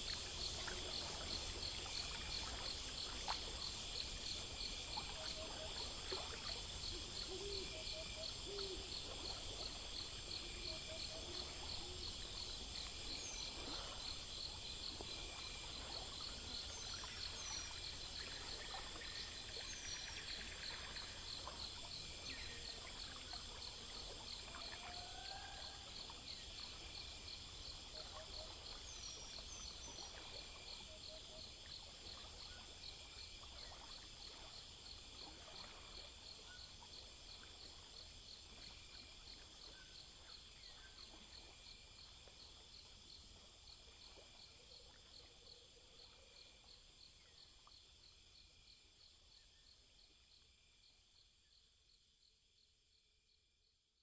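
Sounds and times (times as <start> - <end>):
crickets and insects chirping: 0.0 - 53.7.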